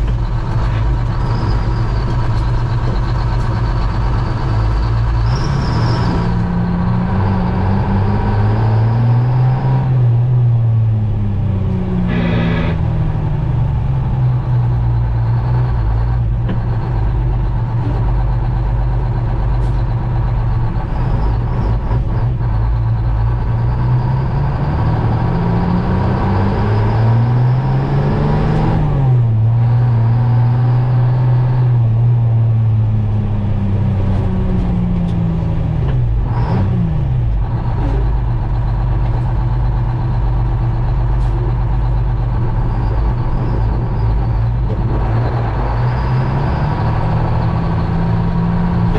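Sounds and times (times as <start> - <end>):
diesel truck engine pulling away: 0.0 - 48.9.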